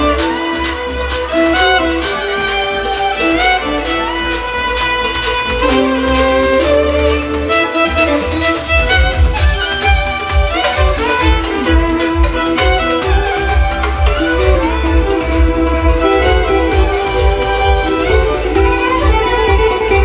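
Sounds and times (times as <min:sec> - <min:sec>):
deep bass line: 0:00.0 - 0:20.0
steady beat: 0:00.0 - 0:20.0
violin melody: 0:00.0 - 0:20.0.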